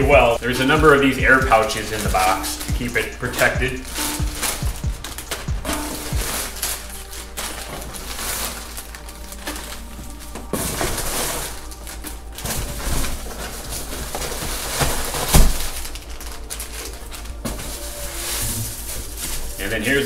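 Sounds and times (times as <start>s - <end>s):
plastic packing rustling: 0.0s - 20.0s.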